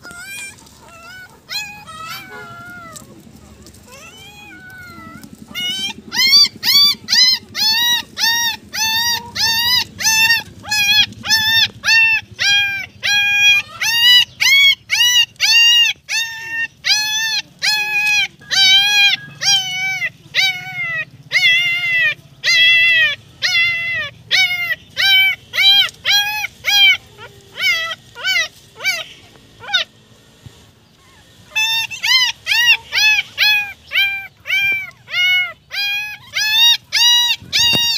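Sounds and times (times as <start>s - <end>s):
puppy whimpering cries: 0.0s - 29.9s, 31.0s - 37.9s.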